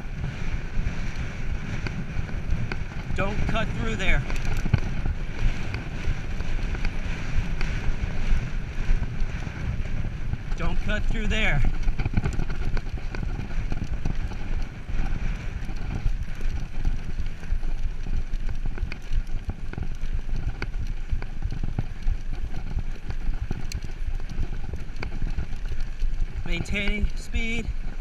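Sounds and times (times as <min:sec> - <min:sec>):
bike tyres crunching on gravel: 0:00.0 - 0:28.0
low rumble: 0:00.0 - 0:28.0.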